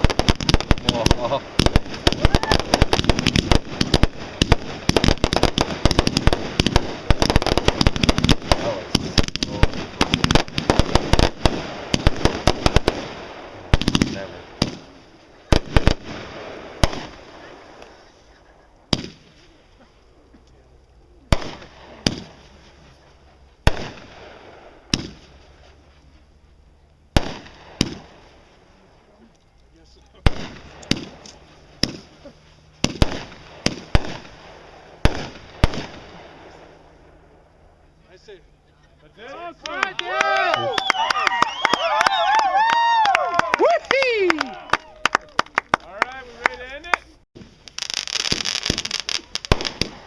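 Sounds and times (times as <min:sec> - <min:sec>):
fireworks bangs and pops: 0:00.0 - 0:29.2, 0:29.8 - 0:37.3, 0:39.3 - 0:50.0.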